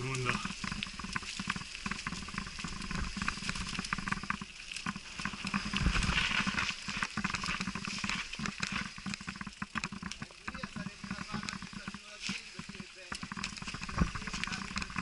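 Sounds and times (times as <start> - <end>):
bike rattling over bumps: 0.0 - 15.0
tyres crunching through leaves: 0.0 - 15.0.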